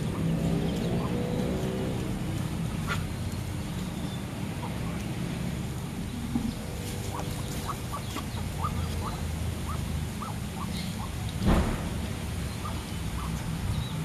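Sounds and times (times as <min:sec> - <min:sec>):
ducks and chickens calling: 0:00.0 - 0:11.4, 0:12.4 - 0:14.0.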